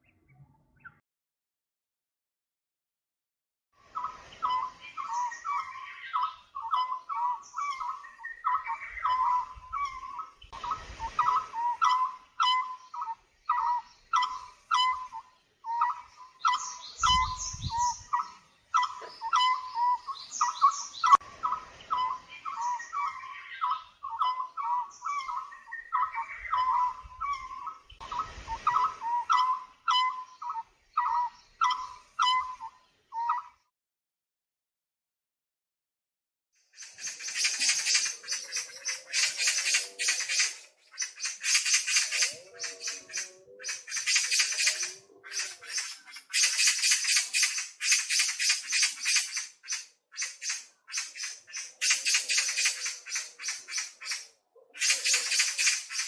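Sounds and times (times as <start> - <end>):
birds singing and calling: 3.9 - 33.7, 36.7 - 56.0.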